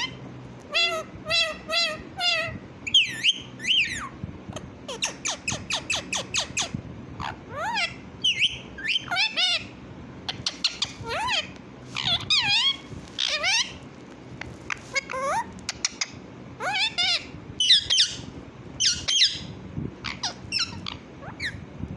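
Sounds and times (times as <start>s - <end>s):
parrot squawks and whistles: 0.0s - 4.2s, 4.9s - 9.7s, 10.3s - 13.8s, 14.4s - 21.6s.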